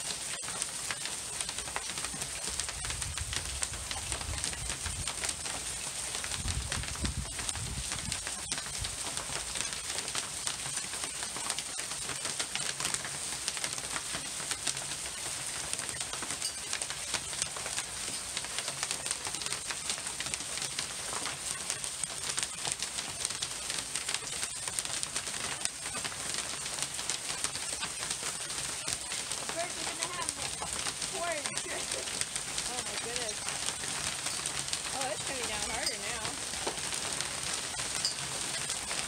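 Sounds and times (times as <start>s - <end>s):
hail falling on gravel: 0.0s - 39.0s.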